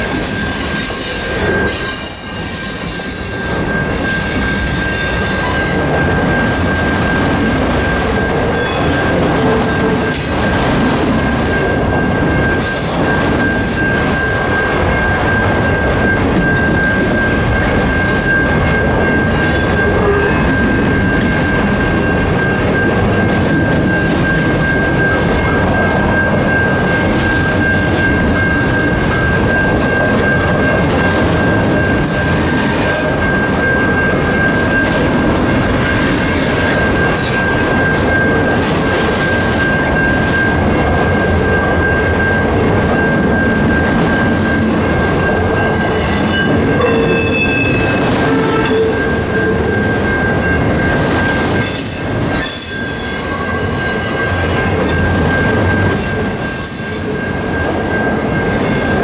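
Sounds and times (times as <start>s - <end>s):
high ringing tone: 0.0s - 59.0s
train wheels rumbling on rail: 0.0s - 59.0s.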